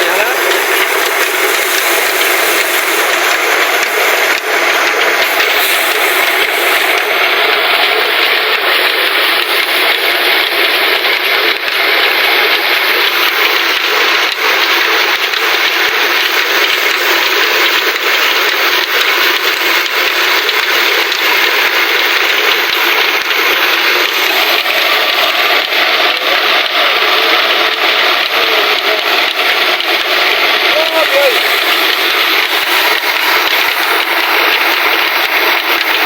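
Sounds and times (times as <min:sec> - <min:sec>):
flour mill rattling grind: 0:00.0 - 0:36.0.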